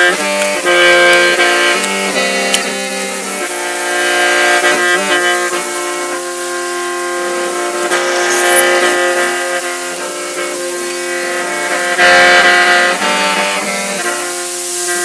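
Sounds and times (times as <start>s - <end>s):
mouth organ playing chords: 0.0s - 13.8s.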